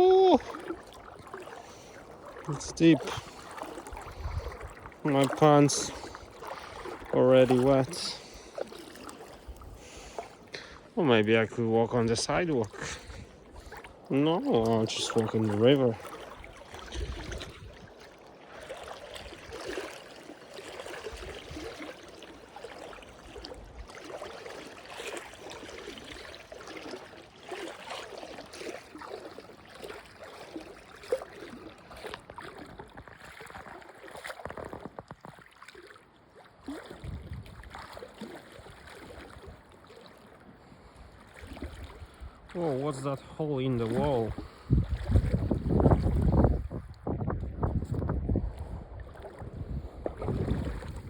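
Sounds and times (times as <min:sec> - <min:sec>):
stream flowing: 0:00.0 - 0:51.0
wading through water: 0:00.0 - 0:51.0.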